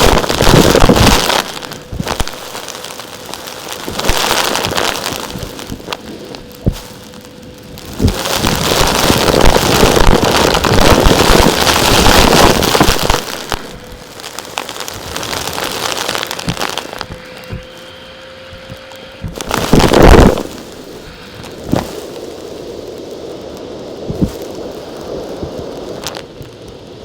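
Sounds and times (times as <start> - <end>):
hard pieces crackling and rattling: 0.0 - 22.2.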